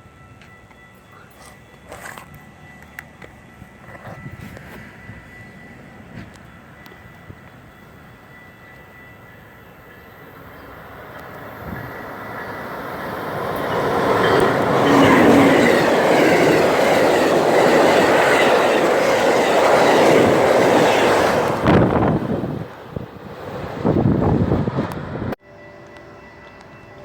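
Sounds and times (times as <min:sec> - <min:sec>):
passenger train passing: 0:00.0 - 0:27.0
wheels rushing on rails: 0:00.0 - 0:27.0.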